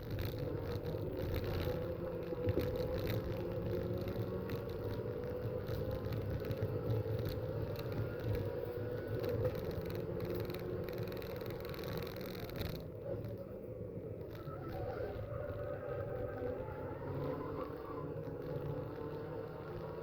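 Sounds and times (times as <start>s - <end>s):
muffled racing car engine: 0.0s - 20.0s.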